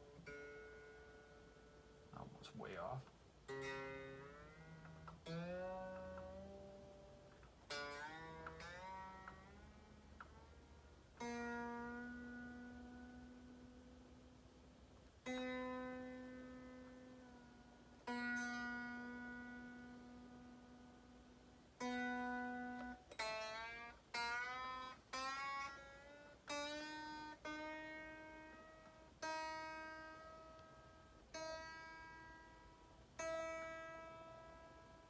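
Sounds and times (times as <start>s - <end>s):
guitar string pitch wavering: 0.0s - 35.0s
guitar string plucked: 0.0s - 35.0s.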